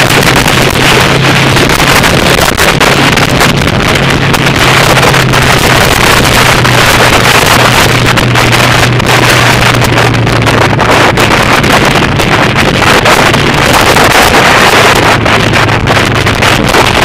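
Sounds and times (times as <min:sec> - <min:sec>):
motorcycle engine hum: 0:00.0 - 0:17.0
wind noise on microphone: 0:00.0 - 0:17.0.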